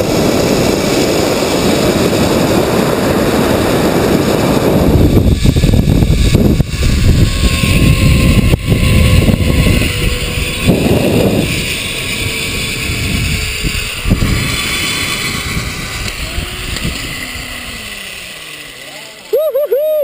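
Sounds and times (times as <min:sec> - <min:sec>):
wind rushing over microphone: 0:00.0 - 0:18.8
pulleys whining on cable: 0:00.0 - 0:20.0.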